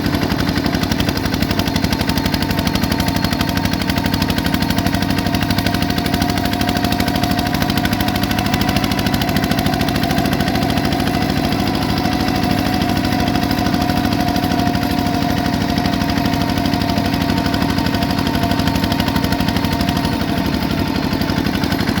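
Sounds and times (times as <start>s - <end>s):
bulldozer diesel engine clattering: 0.0s - 22.0s.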